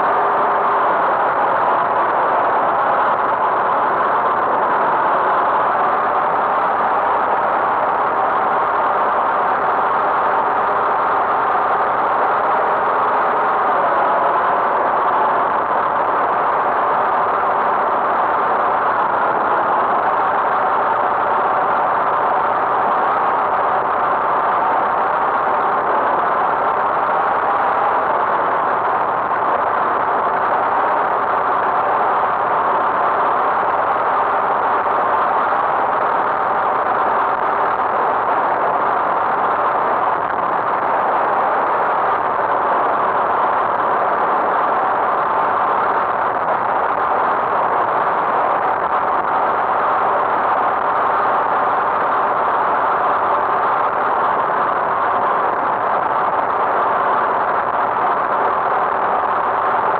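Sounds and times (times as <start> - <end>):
rushing noise: 0.0 - 59.9.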